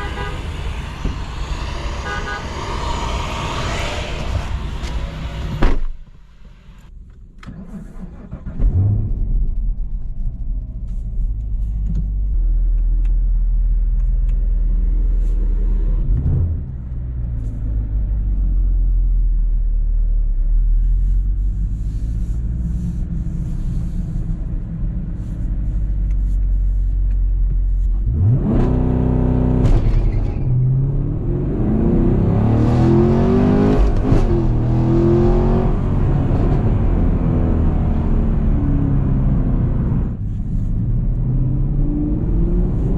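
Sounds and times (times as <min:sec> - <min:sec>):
car engine and exhaust: 0:00.0 - 0:42.9.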